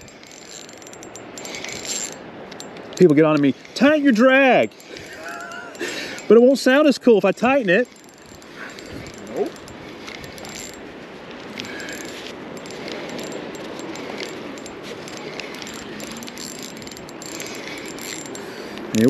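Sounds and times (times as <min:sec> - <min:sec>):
fishing reel clicking whir: 0:00.0 - 0:06.5, 0:07.4 - 0:19.0.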